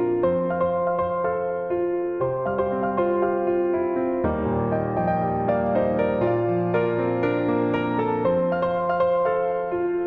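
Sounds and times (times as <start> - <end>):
solo piano playing: 0.0 - 10.0.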